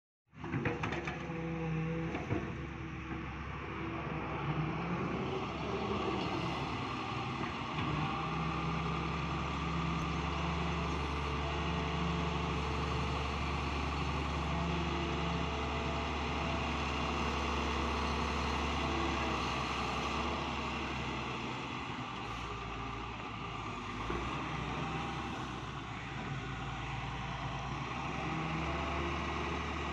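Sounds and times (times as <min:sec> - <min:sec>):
excavator diesel engine running: 0:00.4 - 0:29.9.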